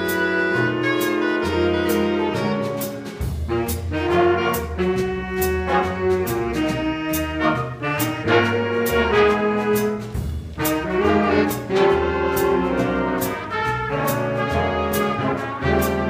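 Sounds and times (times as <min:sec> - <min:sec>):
bass line: 0:00.0 - 0:16.0
brass chords: 0:00.0 - 0:16.0
jazz big band playing: 0:00.0 - 0:16.0.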